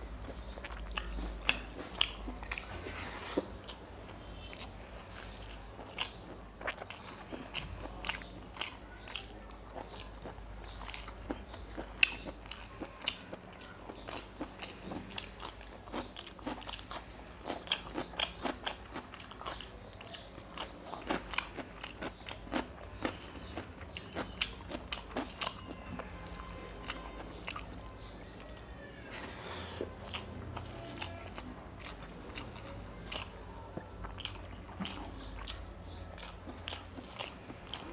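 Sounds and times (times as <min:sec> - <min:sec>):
man chewing with wet smacks: 0:00.0 - 0:28.7, 0:29.3 - 0:37.9.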